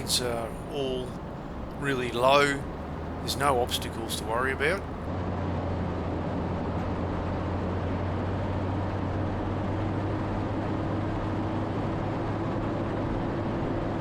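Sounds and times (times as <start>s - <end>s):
vehicle engine drone: 0.0s - 14.0s.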